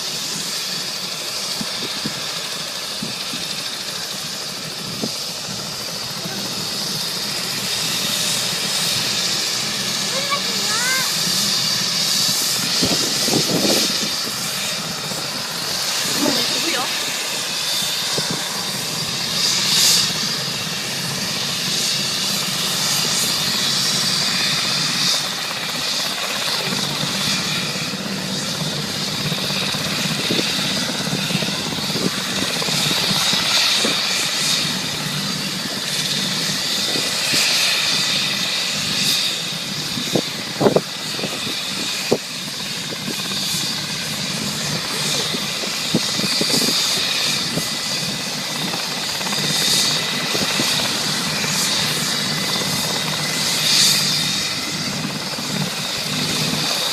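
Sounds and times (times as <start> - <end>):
helicopter turbine and rotor whine: 0.0 - 56.9.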